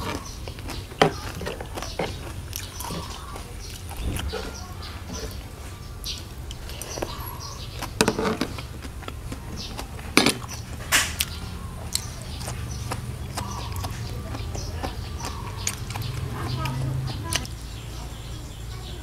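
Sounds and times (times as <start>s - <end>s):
eating mouth sounds: 0.0s - 17.8s
steady low hum: 0.0s - 19.0s.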